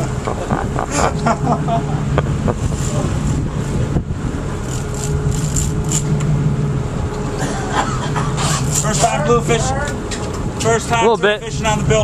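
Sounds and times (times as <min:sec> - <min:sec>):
boat engine humming: 0:00.0 - 0:12.0
wind: 0:00.0 - 0:12.0.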